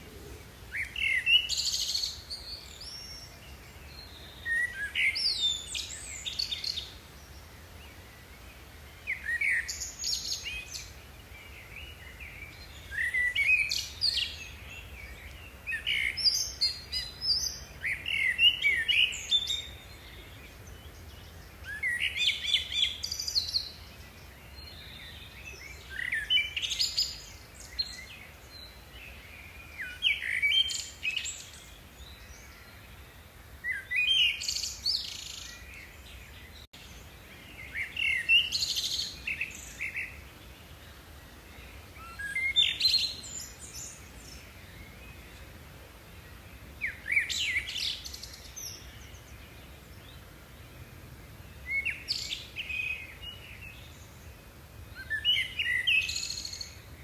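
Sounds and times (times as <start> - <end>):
songbird chirping song: 0.0 - 57.0.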